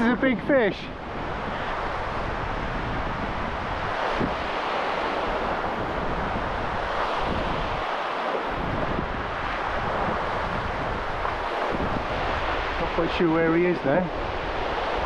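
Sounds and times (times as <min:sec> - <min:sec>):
water lapping on beach: 0:00.0 - 0:15.0
wind buffeting microphone: 0:00.0 - 0:15.0.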